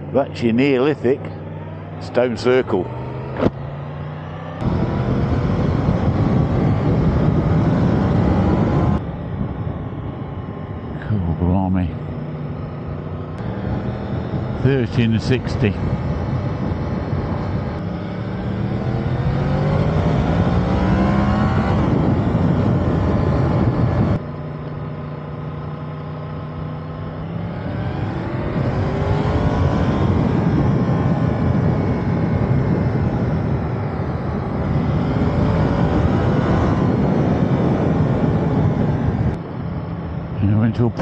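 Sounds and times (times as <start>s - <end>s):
motorcycle engine accelerating: 0.0s - 41.0s
wind rushing: 1.4s - 11.0s, 12.2s - 24.2s, 27.2s - 40.3s.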